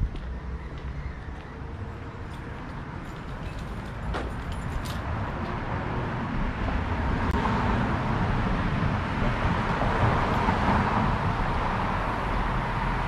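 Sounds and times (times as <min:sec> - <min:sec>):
motor vehicle noise: 0:00.0 - 0:13.0.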